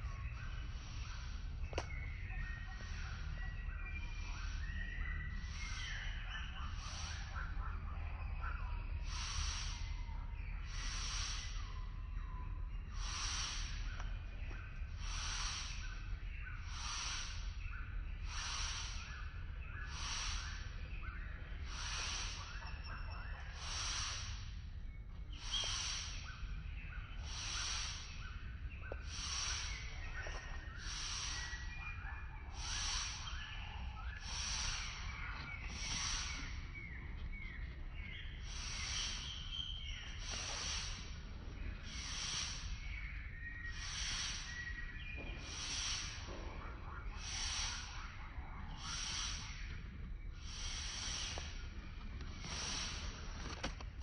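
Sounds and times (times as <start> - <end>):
faint chirps: 0.0 - 54.0
steady low rumble: 0.0 - 54.0.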